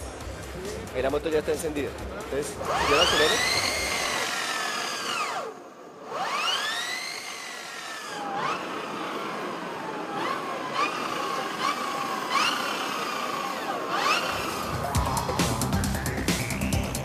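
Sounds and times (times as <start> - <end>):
electric motorcycle motor whining: 1.6 - 17.0.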